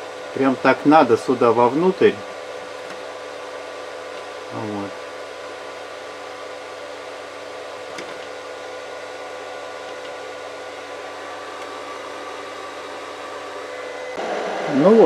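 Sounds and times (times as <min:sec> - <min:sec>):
cooling fan hiss: 0:00.0 - 0:15.0
electrical hum: 0:00.0 - 0:15.0.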